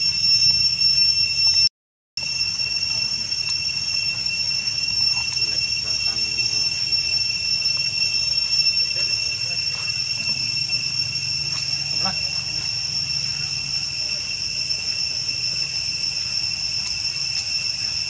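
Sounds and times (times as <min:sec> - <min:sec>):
cicadas droning: 0:00.0 - 0:01.6, 0:02.2 - 0:18.0.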